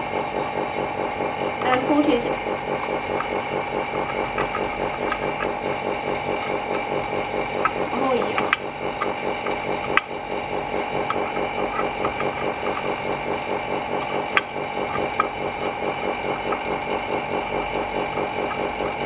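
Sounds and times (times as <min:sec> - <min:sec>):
small machine motor pulsing: 0:00.0 - 0:19.0.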